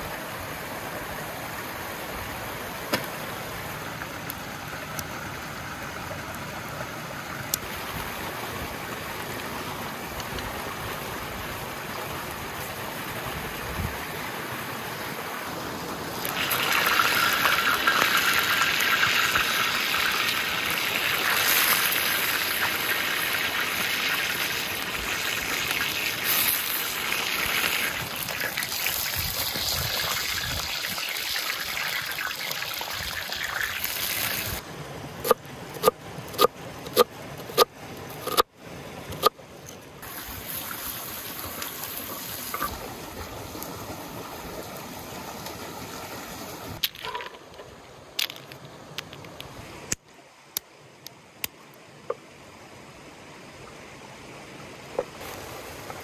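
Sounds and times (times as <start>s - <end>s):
running water hiss: 0.0s - 35.3s, 37.6s - 56.0s.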